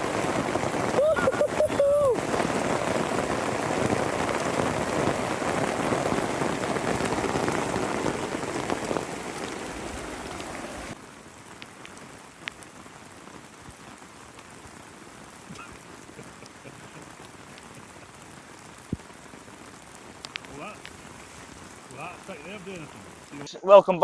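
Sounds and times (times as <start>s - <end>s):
heavy rain: 0.0s - 24.0s
individual raindrops: 0.0s - 24.0s.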